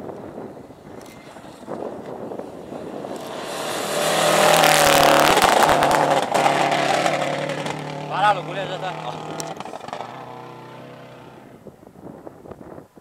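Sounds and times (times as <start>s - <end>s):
gravel crackling under tyres: 0.0s - 13.0s
rally car engine at full throttle: 0.8s - 11.6s.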